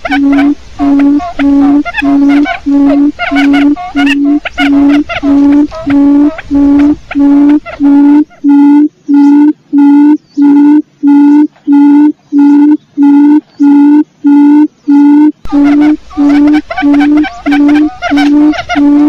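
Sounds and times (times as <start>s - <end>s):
birds chirping: 0.0s - 19.0s
outdoor background noise: 0.0s - 19.0s
quail lure call hooting: 0.0s - 19.0s.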